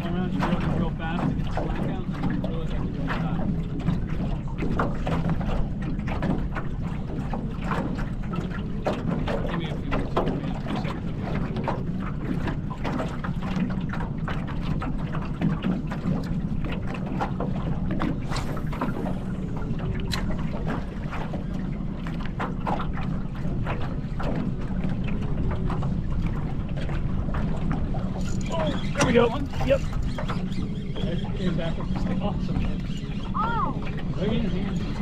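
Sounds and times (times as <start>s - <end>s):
boat engine low rumble: 0.0s - 35.0s
small ticks and knocks: 0.3s - 31.1s.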